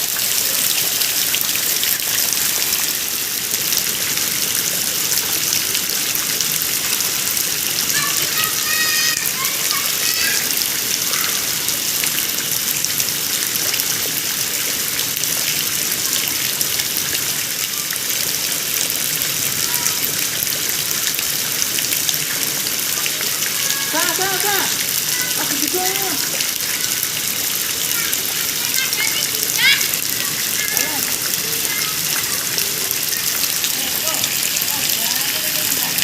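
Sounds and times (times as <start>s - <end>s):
heavy rain on road and roofs: 0.0s - 36.0s.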